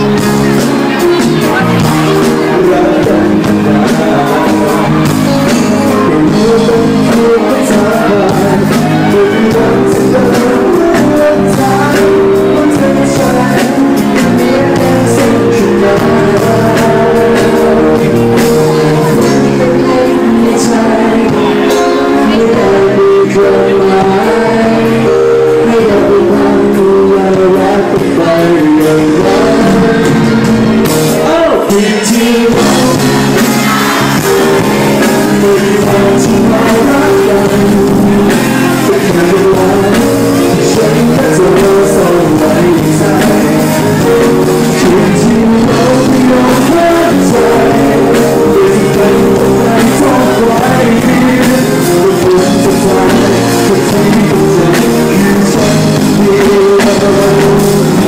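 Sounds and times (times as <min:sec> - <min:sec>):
live band with singer: 0:00.0 - 0:58.0.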